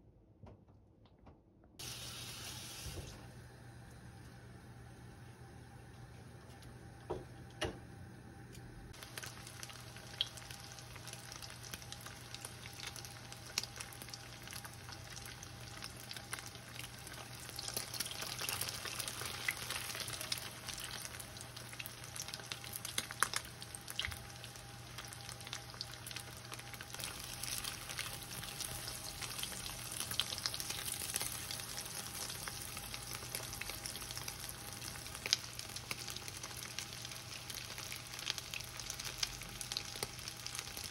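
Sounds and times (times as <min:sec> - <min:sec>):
meat sizzling in hot oil: 0:01.8 - 0:03.1, 0:09.0 - 0:40.9.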